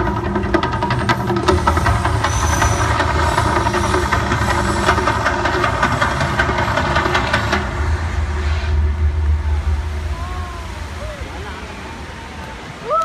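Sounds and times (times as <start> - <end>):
rapid crackling: 0.0 - 12.0
eruption show rumbling: 0.0 - 13.0.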